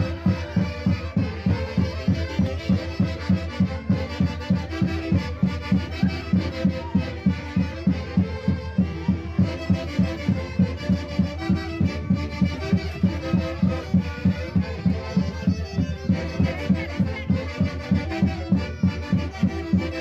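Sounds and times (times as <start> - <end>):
reed wind instruments playing: 0.0 - 20.0
steady drum beat: 0.0 - 20.0.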